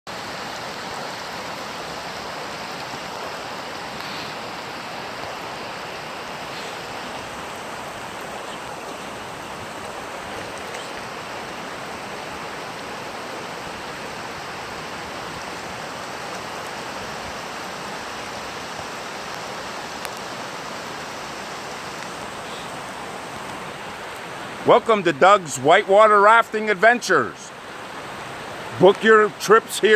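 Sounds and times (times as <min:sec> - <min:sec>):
floodwater rushing: 0:00.1 - 0:29.9.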